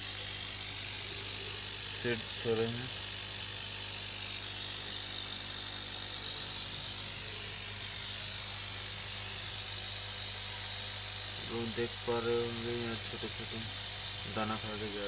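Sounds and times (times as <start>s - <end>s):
air pump electrical hum: 0.0s - 15.0s.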